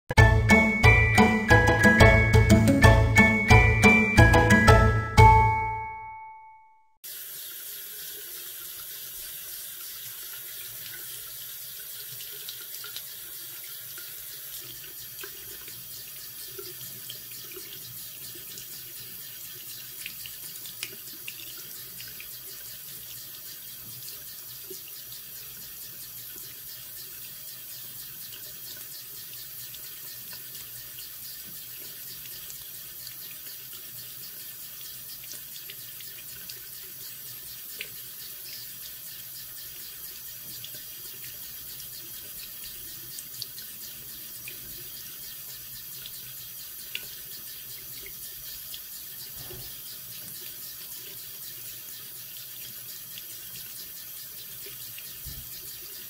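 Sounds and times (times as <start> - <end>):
faucet running into sink: 7.0 - 56.0.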